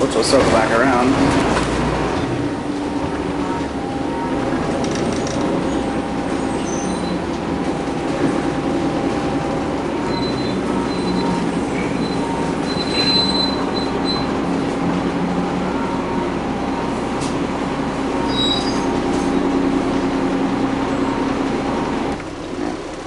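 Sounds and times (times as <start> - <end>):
bus engine droning: 0.0 - 23.0
road rumble: 0.0 - 23.0.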